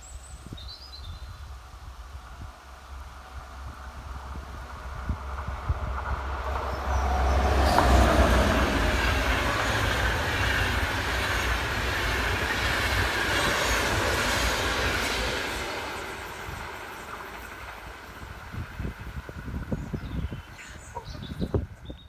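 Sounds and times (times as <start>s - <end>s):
train passing at speed: 1.1s - 22.0s.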